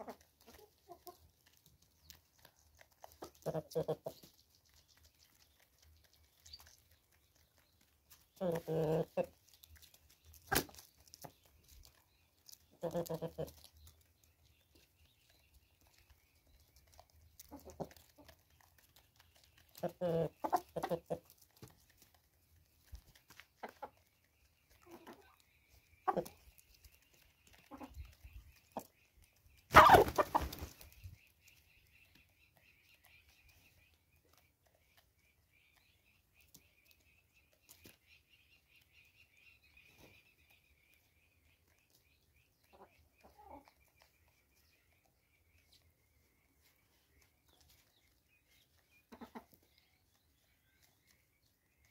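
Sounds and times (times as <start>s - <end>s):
chicken clucking: 0.0s - 51.9s
chickens pecking at seed: 0.0s - 51.9s.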